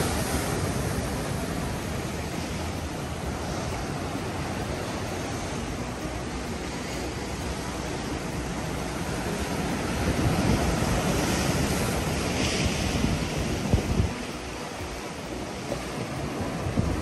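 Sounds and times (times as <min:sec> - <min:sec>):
surf breaking on rocks: 0:00.0 - 0:06.0, 0:06.6 - 0:14.4
wind buffeting microphone: 0:00.0 - 0:17.0.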